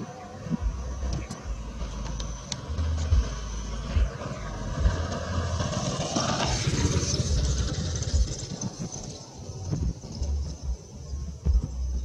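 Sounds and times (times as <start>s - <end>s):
jet engines roaring with hiss: 0.0s - 11.7s
wind rumbling on microphone: 0.0s - 12.0s.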